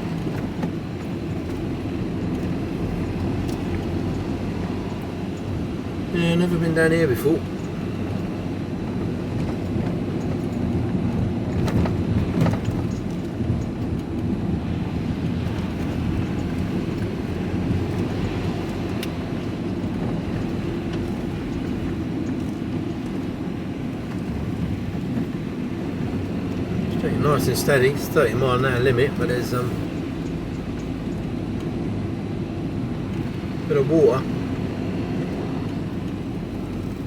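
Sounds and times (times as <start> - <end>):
lorry diesel engine running: 0.0 - 37.0
road noise: 0.0 - 37.0.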